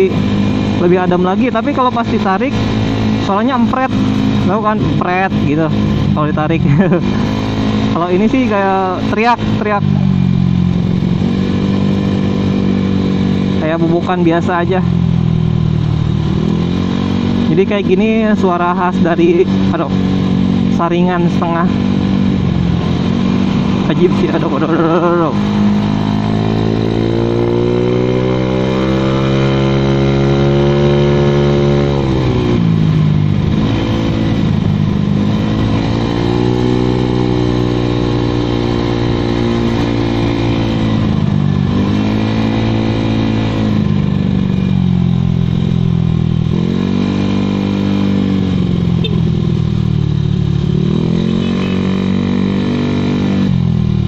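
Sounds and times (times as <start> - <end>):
scooter engine revving: 0.0 - 54.0.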